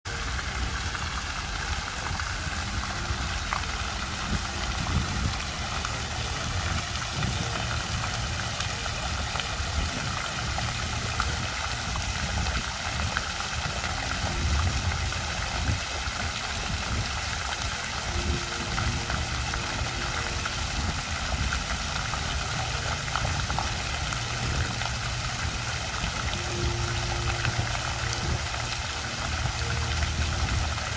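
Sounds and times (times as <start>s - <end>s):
fountain water splashing: 0.1s - 30.9s.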